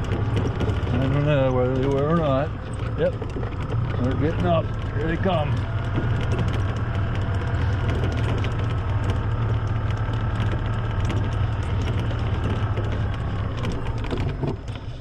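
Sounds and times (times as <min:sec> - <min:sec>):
golf cart humming: 0:00.0 - 0:15.0
light rattling clicks: 0:00.0 - 0:15.0.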